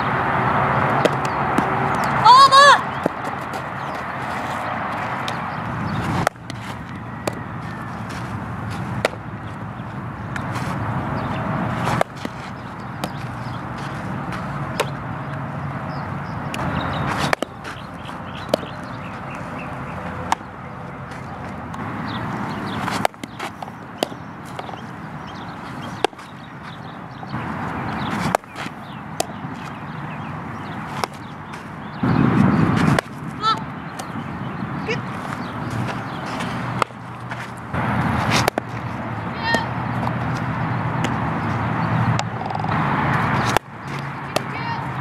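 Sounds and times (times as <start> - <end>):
steady outdoor noise: 0.0 - 45.0
softball being hit and caught: 0.9 - 15.3, 16.4 - 26.9, 27.8 - 44.9.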